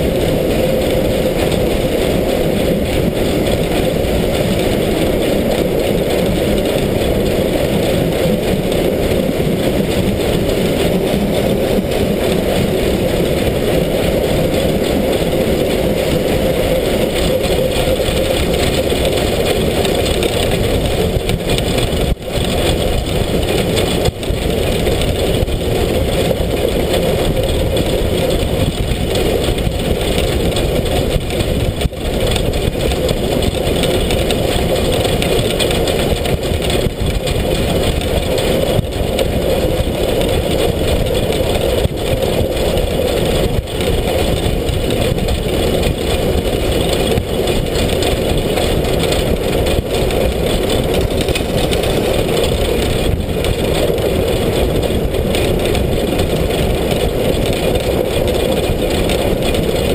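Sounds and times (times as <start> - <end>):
steam locomotive running gear rumble: 0.0 - 59.9.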